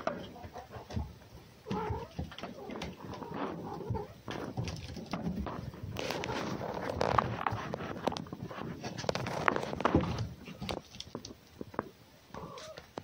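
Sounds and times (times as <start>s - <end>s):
animals scuffling and rustling: 0.0s - 13.0s.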